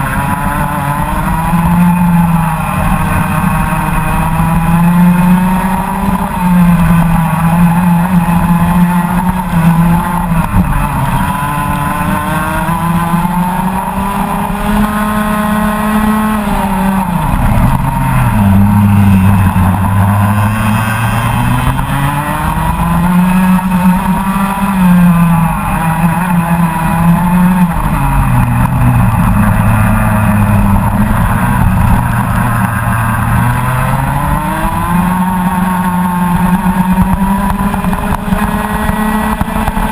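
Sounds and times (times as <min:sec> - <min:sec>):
kart engine at racing revs: 0:00.0 - 0:39.9.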